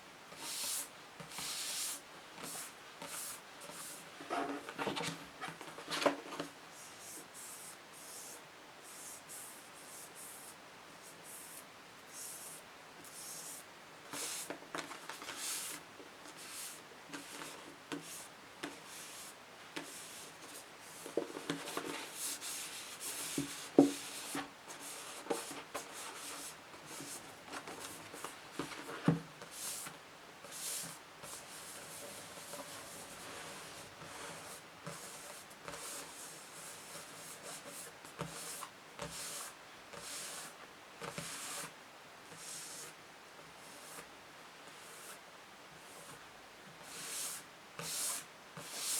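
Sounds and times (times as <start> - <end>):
scratching and rubbing on books: 0.3 - 43.0, 43.6 - 45.2, 46.8 - 48.9.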